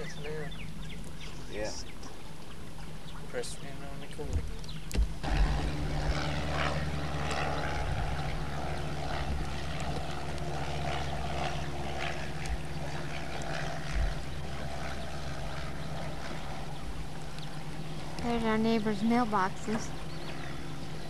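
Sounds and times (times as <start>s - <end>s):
boat motor droning: 0.0s - 21.0s.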